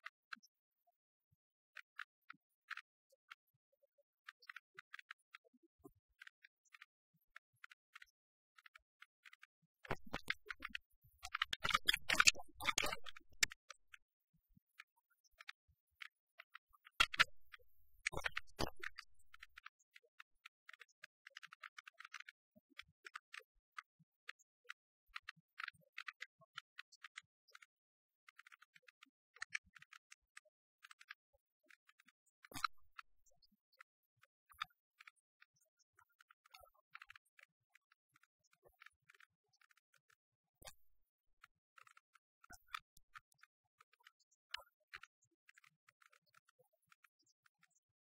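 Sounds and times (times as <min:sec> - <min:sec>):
faint clicking and crackle: 0:00.0 - 0:48.0.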